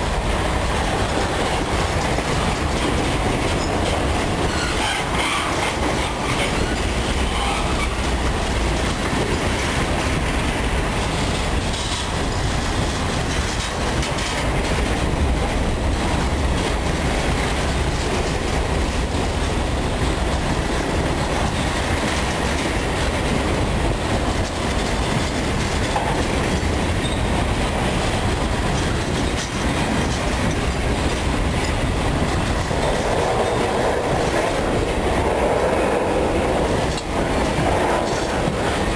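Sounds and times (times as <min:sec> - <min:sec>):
freight train rumbling past: 0:00.0 - 0:38.9
wheels clattering over rail joints: 0:00.0 - 0:38.9.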